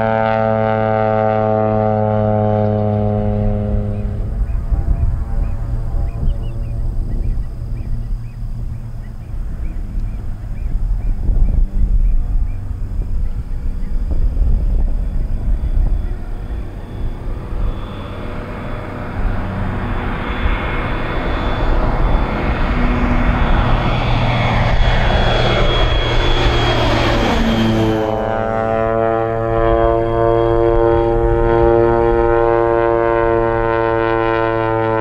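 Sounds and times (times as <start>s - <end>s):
propeller plane passing: 0.0s - 35.0s.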